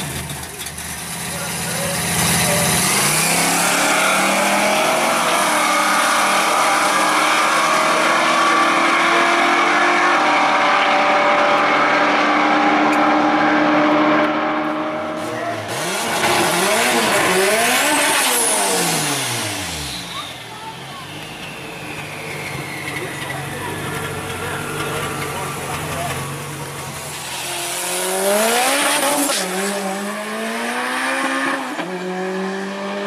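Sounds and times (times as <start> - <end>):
car engine revving: 0.0 - 33.0
car engines accelerating: 0.0 - 33.0
tires spinning: 0.0 - 33.0.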